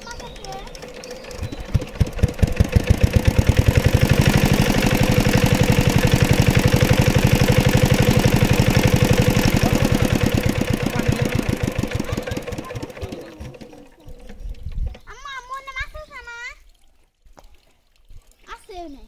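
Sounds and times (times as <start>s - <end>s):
water pump engine chugging: 0.0s - 16.6s.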